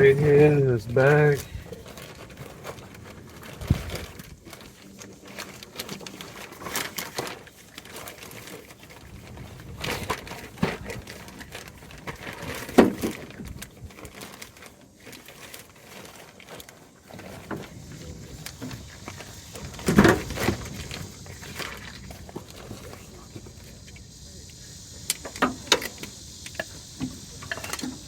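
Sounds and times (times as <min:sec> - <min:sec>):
bag rustling and crinkling: 0:00.0 - 0:28.0.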